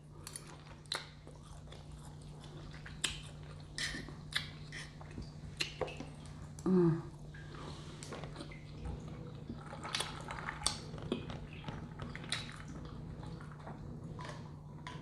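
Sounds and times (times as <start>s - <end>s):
person chewing food: 0.0s - 6.6s, 7.4s - 15.0s.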